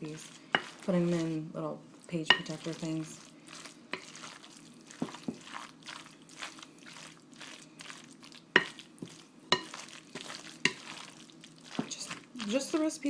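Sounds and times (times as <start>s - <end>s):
spoon scraping wet salad: 0.0s - 1.4s, 2.0s - 13.0s.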